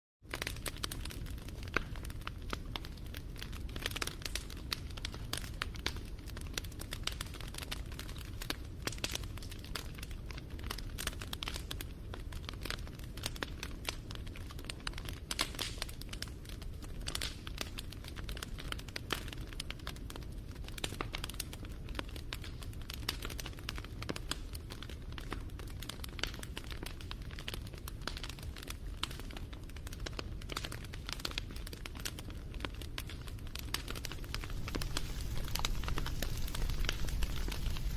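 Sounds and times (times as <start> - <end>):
bonfire crackling and popping: 0.2 - 37.9
low rush of burning fire: 0.3 - 37.9.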